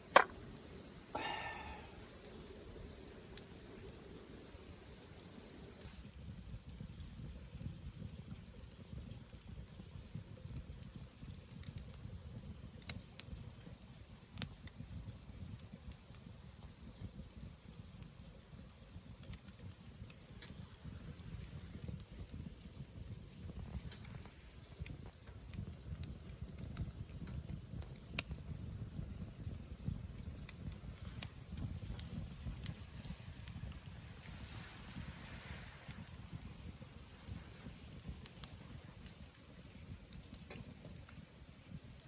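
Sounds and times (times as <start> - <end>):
low fire rumble: 0.0 - 42.0
wood fire crackling and popping: 0.0 - 42.0.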